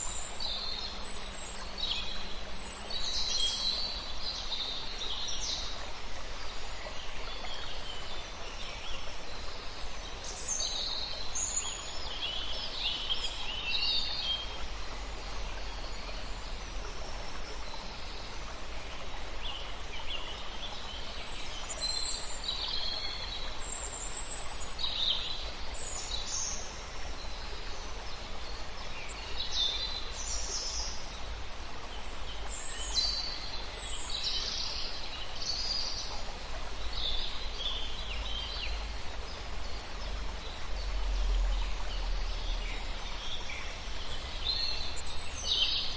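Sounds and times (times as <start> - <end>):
steady background hiss: 0.0 - 45.9.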